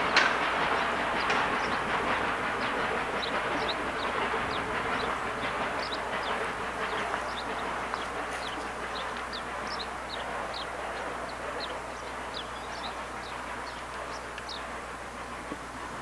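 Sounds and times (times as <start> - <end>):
songbird chirping: 0.0 - 14.8
rushing background noise: 0.0 - 16.0.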